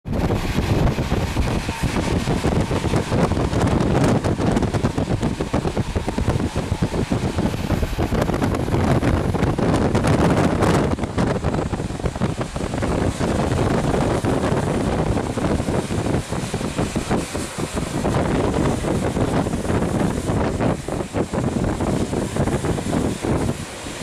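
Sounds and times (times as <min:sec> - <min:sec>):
train wheels rumbling on rails: 0:00.0 - 0:24.0
wind on microphone: 0:00.0 - 0:24.0.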